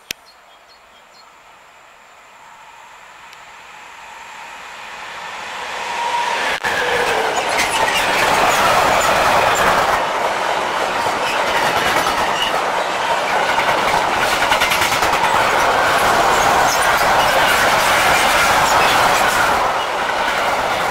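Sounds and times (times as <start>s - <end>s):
locomotive passing: 0.3s - 20.9s.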